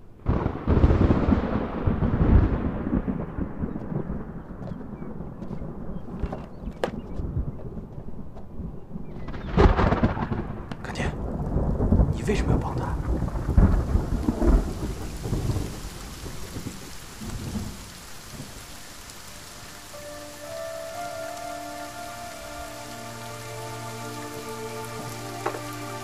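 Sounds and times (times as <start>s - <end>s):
heavy rain: 0.0s - 26.0s
thunder rumbling: 0.0s - 26.0s.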